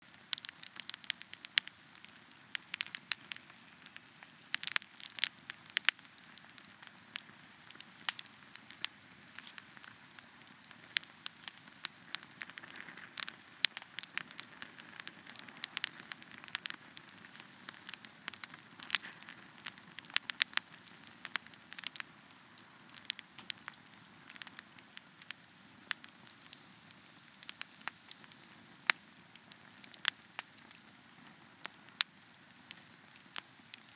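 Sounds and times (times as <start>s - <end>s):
campfire crackling: 0.0s - 33.9s
soft steady hiss: 0.0s - 33.9s.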